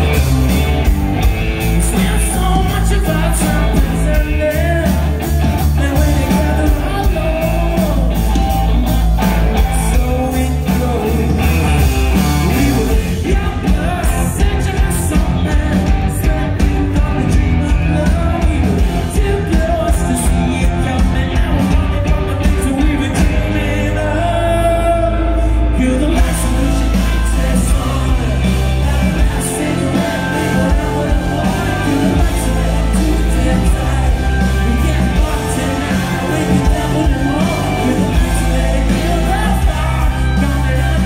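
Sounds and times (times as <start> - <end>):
lead singer vocals: 0.0 - 41.0
live rock band playing: 0.0 - 41.0.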